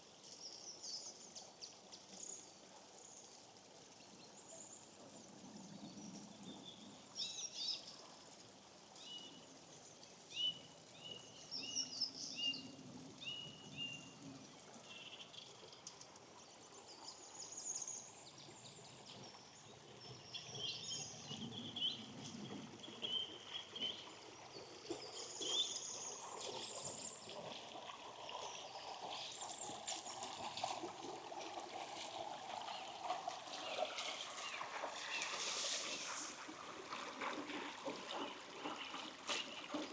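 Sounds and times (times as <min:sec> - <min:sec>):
small stream running: 0:00.0 - 0:39.9.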